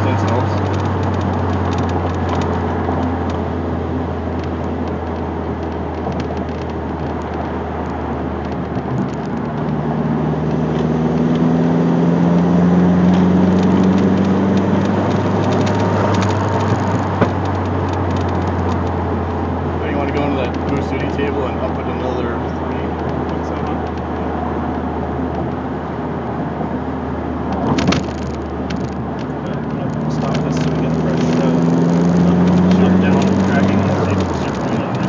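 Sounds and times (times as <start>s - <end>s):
car engine drone: 0.0s - 35.0s
road noise: 0.0s - 35.0s.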